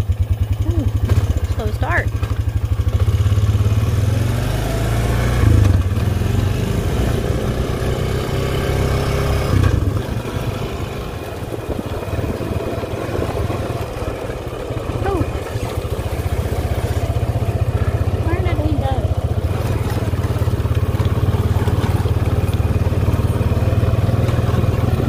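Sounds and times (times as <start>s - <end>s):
atv engine revving: 0.0s - 25.0s.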